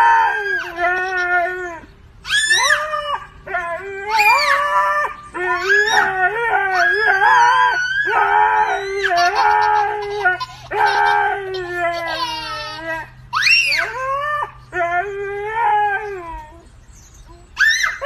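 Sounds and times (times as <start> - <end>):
dog howling: 0.0 - 16.7
toddler howling: 0.0 - 16.7.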